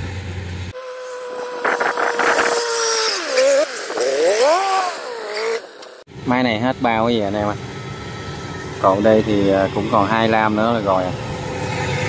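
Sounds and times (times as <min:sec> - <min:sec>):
engine whining: 0:00.0 - 0:12.0.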